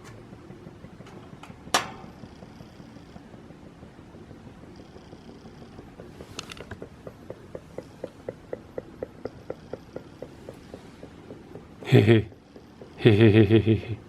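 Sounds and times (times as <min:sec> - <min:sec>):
kerosene heater ticking: 0:00.0 - 0:14.0
low hum: 0:00.0 - 0:14.0.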